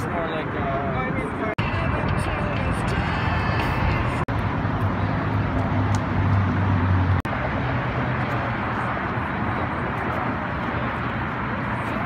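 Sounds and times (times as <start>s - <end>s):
vehicle engine hum: 0.1s - 12.0s.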